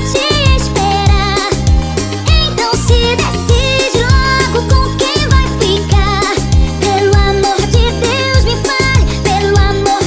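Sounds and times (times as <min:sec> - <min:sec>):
heavy kick drum: 0:00.0 - 0:09.9.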